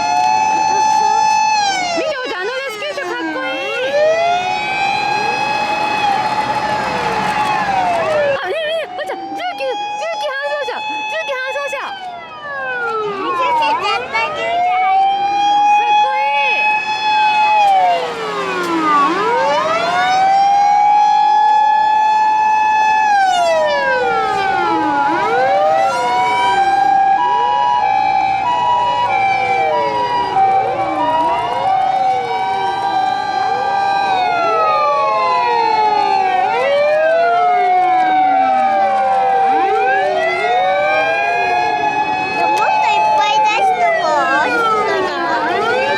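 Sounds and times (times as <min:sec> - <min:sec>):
fire engine sirens wailing: 0:00.0 - 0:45.9
two-tone high-low siren: 0:00.0 - 0:45.9.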